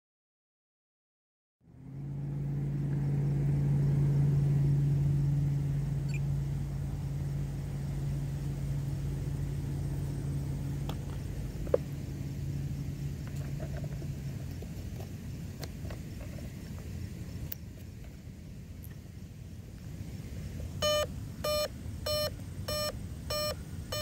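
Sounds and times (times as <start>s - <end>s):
steady low hum: 1.6s - 24.0s.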